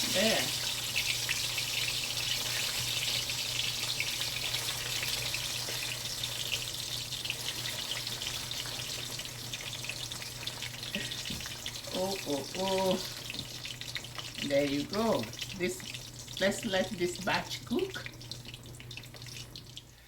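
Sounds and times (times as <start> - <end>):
plantains sizzling in oil: 0.0 - 20.0.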